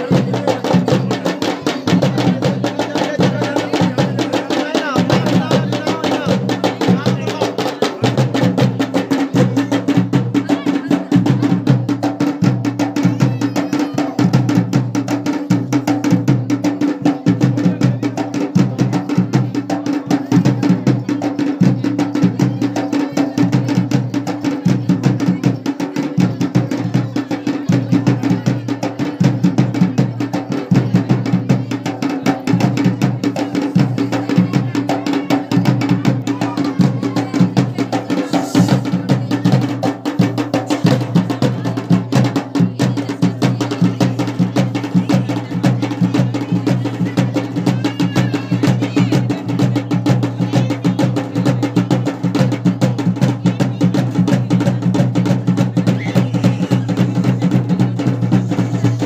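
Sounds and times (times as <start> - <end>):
drums playing fast dance rhythm: 0.0 - 59.0.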